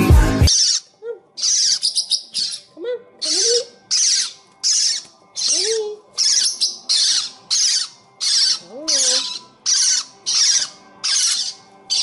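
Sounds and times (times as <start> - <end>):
parrotlets raspy begging calls: 0.5 - 12.0.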